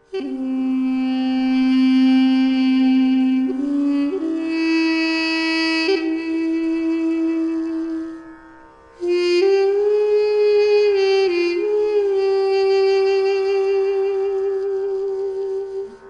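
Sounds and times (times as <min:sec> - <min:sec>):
duduk playing held notes: 0:00.0 - 0:16.0.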